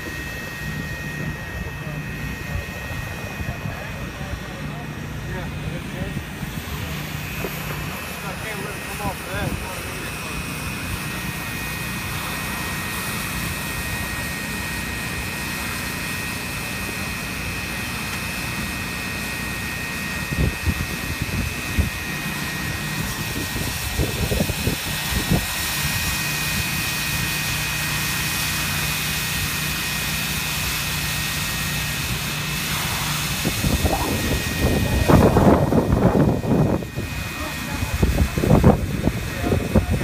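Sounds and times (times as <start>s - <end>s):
high-pitched whines: 0.0s - 40.0s
hot-air welder blower hiss: 0.0s - 40.0s.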